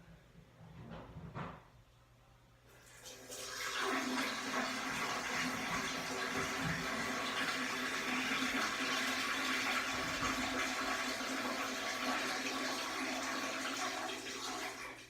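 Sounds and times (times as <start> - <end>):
toilet flushing: 2.7 - 15.0.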